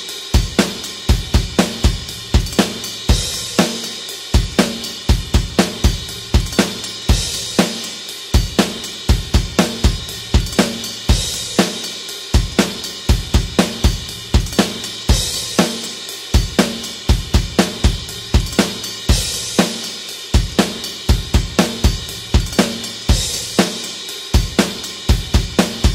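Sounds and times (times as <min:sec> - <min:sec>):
rock drum beat: 0:00.0 - 0:25.9.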